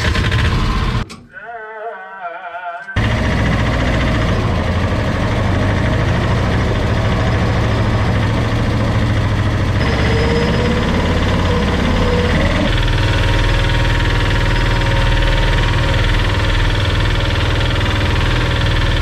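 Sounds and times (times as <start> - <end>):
utility vehicle engine humming: 3.0 - 19.0.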